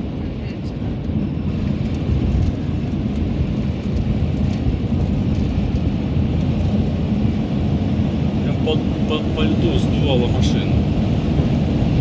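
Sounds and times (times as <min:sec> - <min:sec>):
van road and engine noise: 0:00.0 - 0:12.0
wind buffeting a van: 0:00.0 - 0:12.0.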